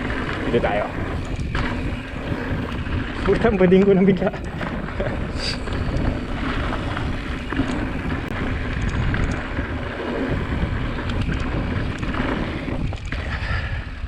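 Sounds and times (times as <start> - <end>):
tyres rumbling over dirt trail: 0.0 - 14.0
wind buffeting microphone: 0.0 - 14.0.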